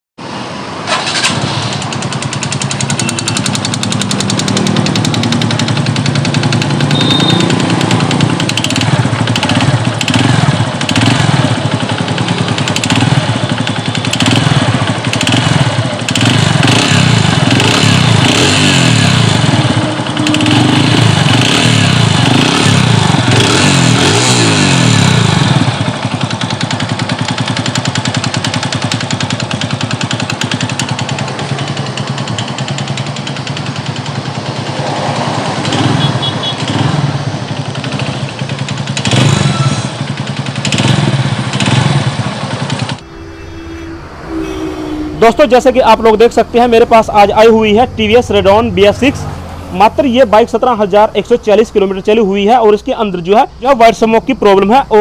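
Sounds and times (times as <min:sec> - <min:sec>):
motorcycle engine revving: 0:00.8 - 0:53.3.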